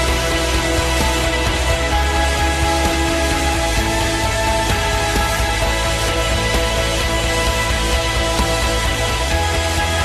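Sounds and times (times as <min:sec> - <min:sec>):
background music with low pulse: 0:00.0 - 0:10.0.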